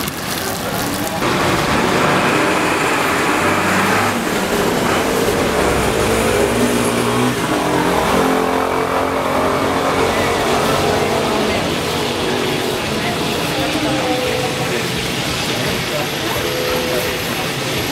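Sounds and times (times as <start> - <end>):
vehicle engine revving: 1.0 - 17.9.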